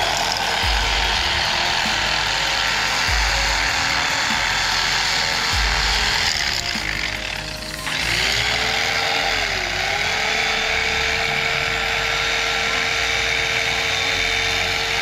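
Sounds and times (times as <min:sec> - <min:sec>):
electric power tool motor: 0:00.0 - 0:15.0.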